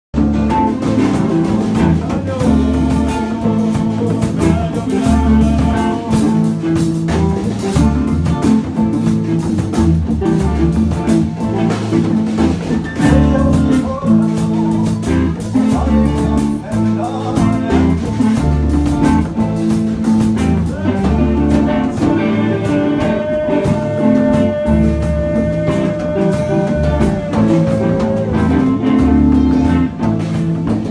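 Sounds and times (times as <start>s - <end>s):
bass: 0.0s - 30.9s
drums: 0.1s - 30.9s
guitar improvising: 0.2s - 30.9s.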